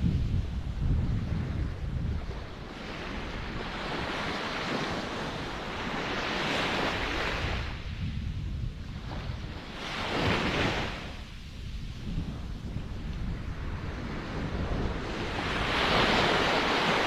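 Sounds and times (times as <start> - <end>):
ocean waves washing ashore: 0.0 - 17.0.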